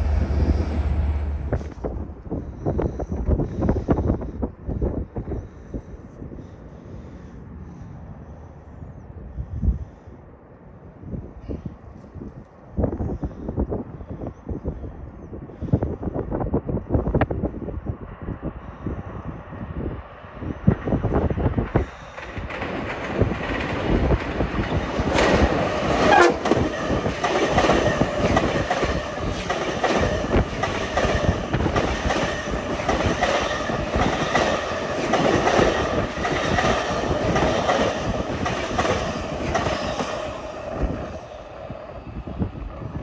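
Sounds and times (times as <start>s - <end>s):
train passing at speed: 0.0s - 14.4s, 15.6s - 43.0s.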